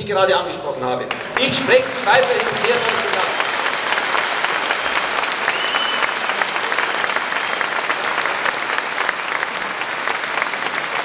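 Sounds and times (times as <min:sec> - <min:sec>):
audience clapping: 0:01.0 - 0:11.0.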